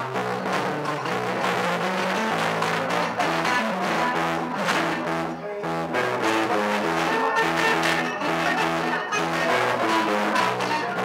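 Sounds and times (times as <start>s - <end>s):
bass guitar line: 0.0s - 11.0s
electric guitar: 0.0s - 11.0s.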